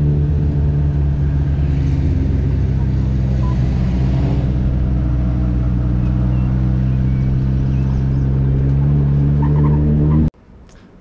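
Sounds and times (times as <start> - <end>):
car engine at low revs: 0.0 - 10.3.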